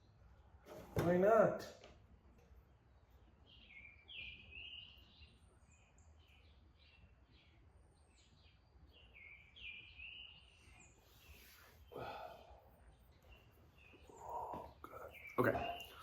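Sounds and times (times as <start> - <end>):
bird chirping: 2.8 - 16.0.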